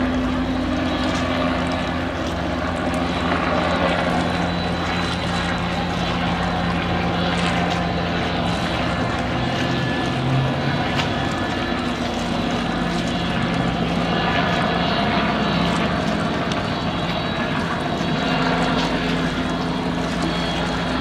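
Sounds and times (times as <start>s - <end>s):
broad rushing noise: 0.0s - 21.0s
motor droning: 0.0s - 21.0s.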